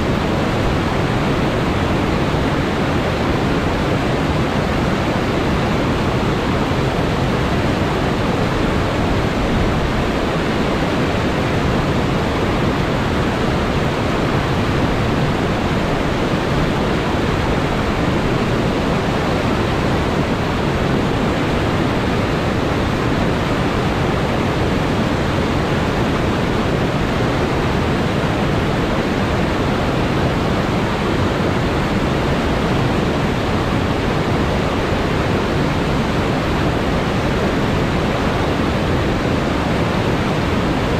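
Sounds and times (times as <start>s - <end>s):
whitewater rushing over rocks: 0.0s - 40.9s.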